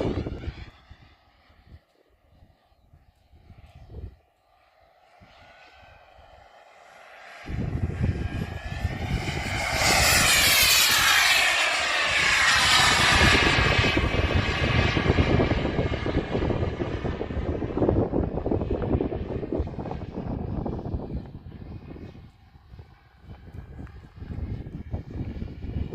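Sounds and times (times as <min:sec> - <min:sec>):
wind buffeting microphone: 0:00.0 - 0:06.5, 0:07.4 - 0:25.9
model jet turbine whining: 0:00.0 - 0:25.9.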